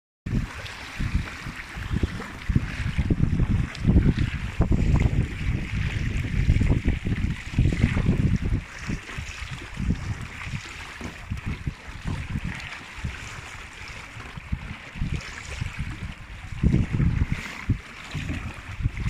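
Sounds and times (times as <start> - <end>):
water splashing along kayak hull: 0.3 - 19.0
wind buffeting microphone: 0.3 - 19.0.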